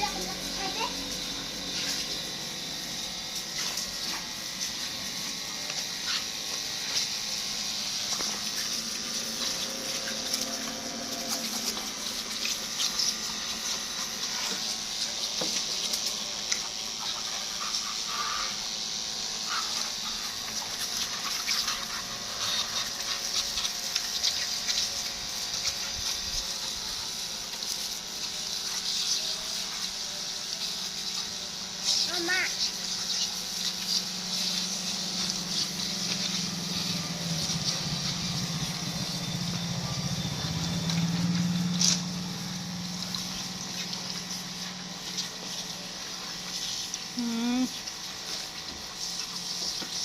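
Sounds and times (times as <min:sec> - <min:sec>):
water spraying on scooter bodywork: 0:00.0 - 0:50.0.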